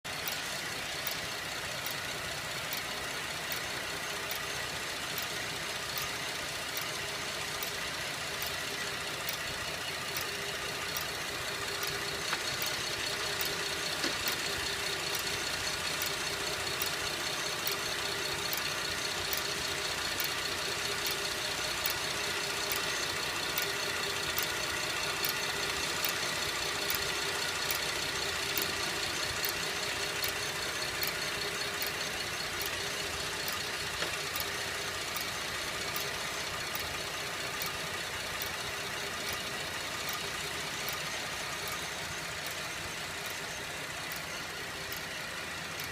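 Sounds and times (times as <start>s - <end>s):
car engine idling: 0.0s - 45.9s
slow regular metallic tick: 0.0s - 45.9s.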